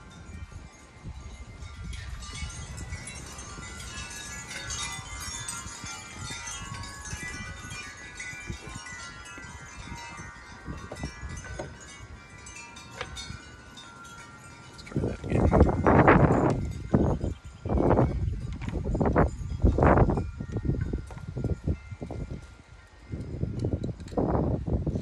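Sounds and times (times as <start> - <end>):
wind chimes ringing: 0.0 - 25.0.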